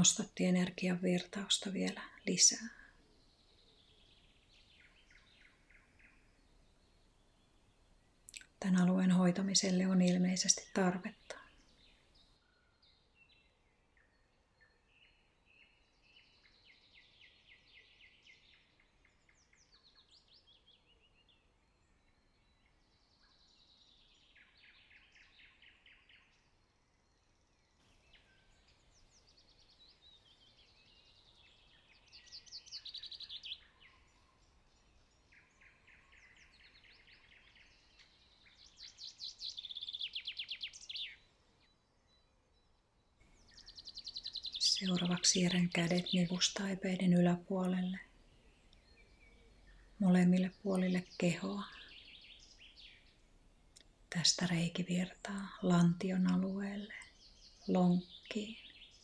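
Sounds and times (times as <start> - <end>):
songbird singing trilled phrases: 0.0 - 59.0.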